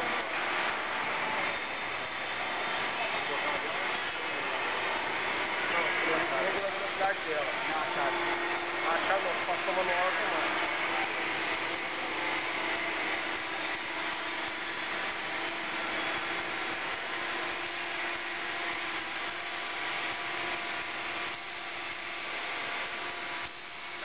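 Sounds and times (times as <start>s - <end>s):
plate-rolling machine running: 0.0s - 24.0s.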